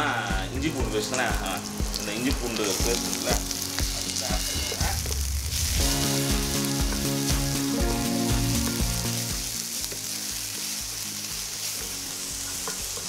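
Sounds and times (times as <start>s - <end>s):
shallots sizzling in hot oil: 0.0s - 13.0s.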